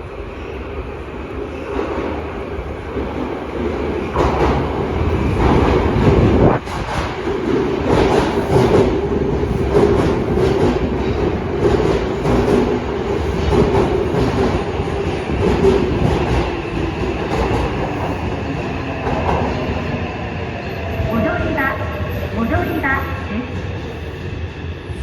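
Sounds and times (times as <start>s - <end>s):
train rumble and drone: 0.0s - 25.0s.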